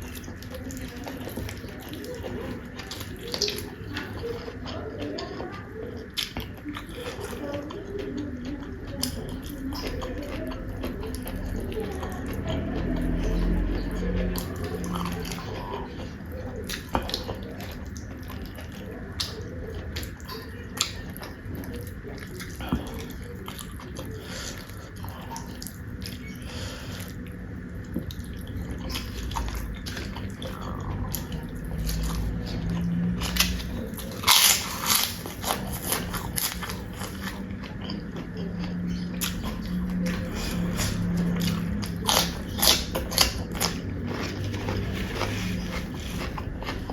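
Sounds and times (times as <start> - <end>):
wet chewing and mouth clicks: 0.0 - 26.4, 27.0 - 46.9.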